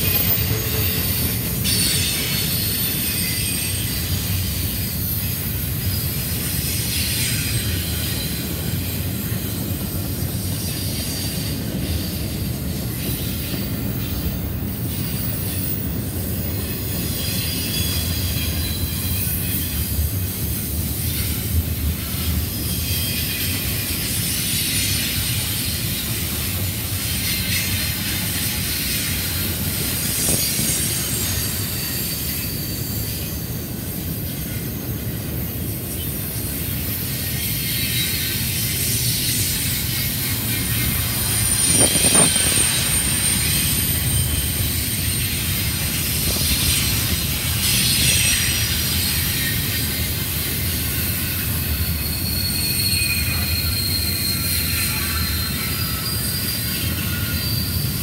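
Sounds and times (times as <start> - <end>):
high wheel squeal and hiss: 0.0 - 58.0
train wheels rumbling on rail: 0.0 - 58.0.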